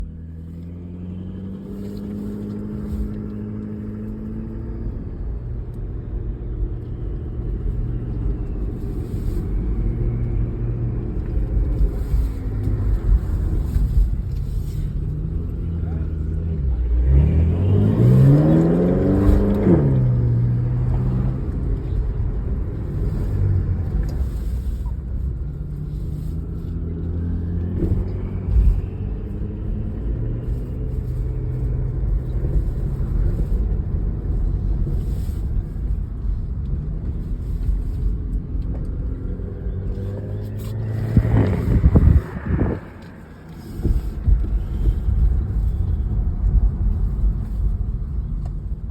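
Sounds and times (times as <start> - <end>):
car engine accelerating hard: 0.0 - 48.9.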